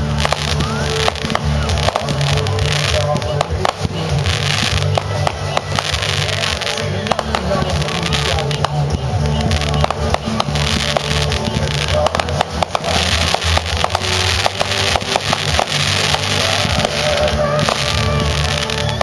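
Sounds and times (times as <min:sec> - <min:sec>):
constant hiss: 0:00.0 - 0:19.0
fireworks crackling and popping: 0:00.0 - 0:19.0
music playing: 0:00.0 - 0:19.0.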